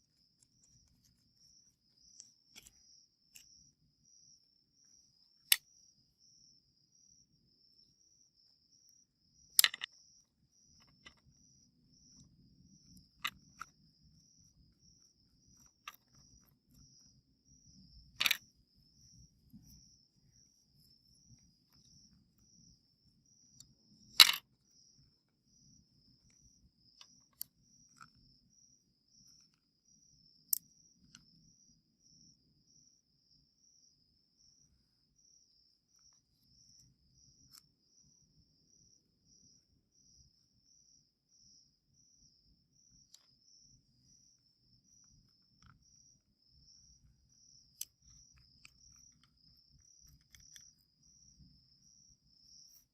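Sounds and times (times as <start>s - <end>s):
crickets chirping: 0.0s - 52.9s.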